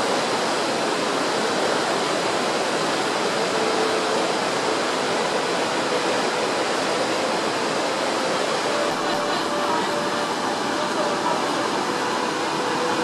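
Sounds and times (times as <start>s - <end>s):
rushing air and water: 0.0s - 13.0s.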